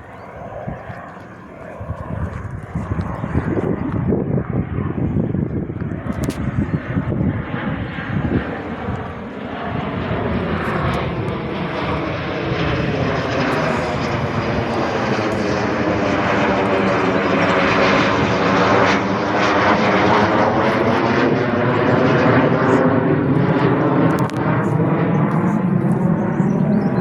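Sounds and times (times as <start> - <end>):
aircraft flying over: 0.0 - 27.0.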